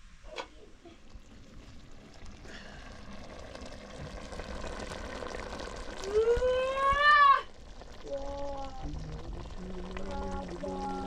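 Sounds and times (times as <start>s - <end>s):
water pouring into container: 1.1s - 11.0s.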